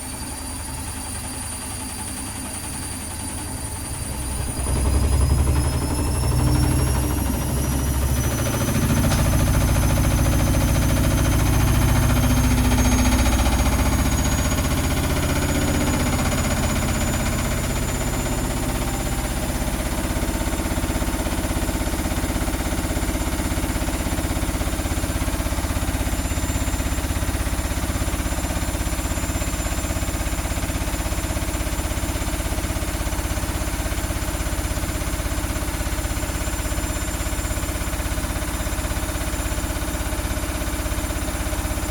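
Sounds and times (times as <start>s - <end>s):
washing machine motor whine: 0.0s - 41.9s.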